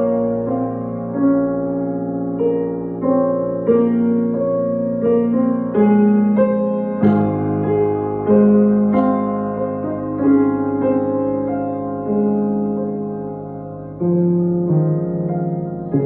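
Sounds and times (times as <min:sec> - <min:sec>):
piano melody over low notes: 0:00.0 - 0:16.0.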